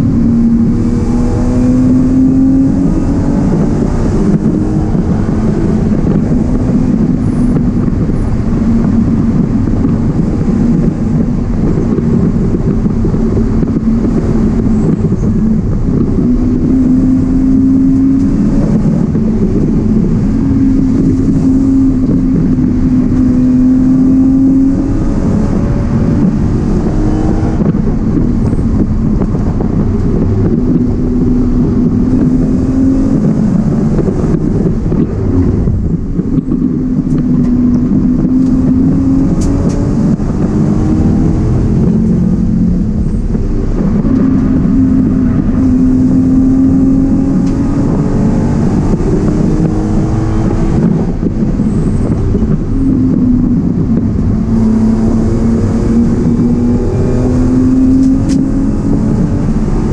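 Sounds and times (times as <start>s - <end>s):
car engine revving from inside: 0.0s - 59.9s.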